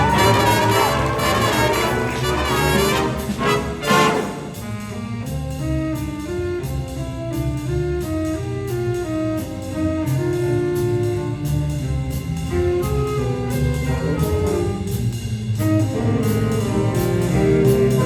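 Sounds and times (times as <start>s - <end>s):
big band playing swing jazz: 0.0s - 18.0s.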